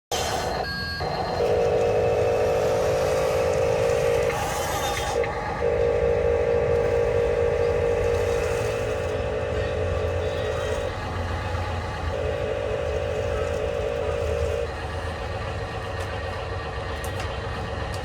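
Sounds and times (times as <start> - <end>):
electric motor whining: 0.3 - 14.8.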